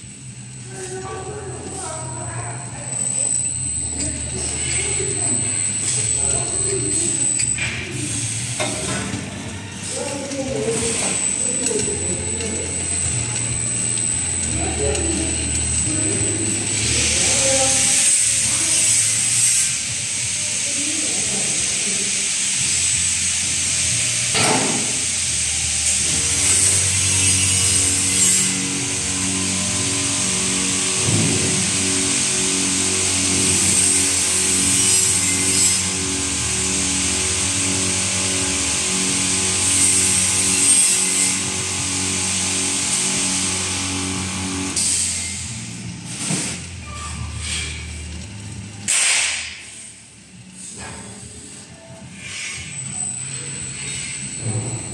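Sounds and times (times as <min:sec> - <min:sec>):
machine hissing: 0:00.0 - 0:54.9.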